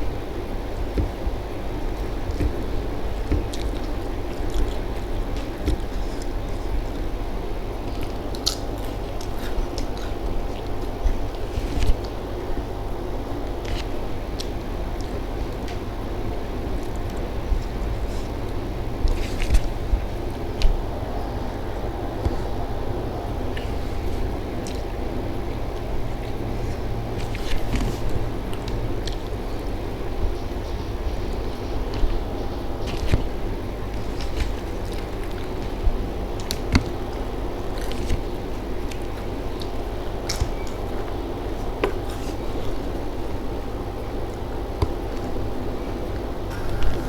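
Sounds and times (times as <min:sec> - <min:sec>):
low background hum: 0:00.0 - 0:47.0
low rumbling background noise: 0:00.0 - 0:47.0
person chewing food: 0:00.4 - 0:12.2, 0:16.7 - 0:47.0.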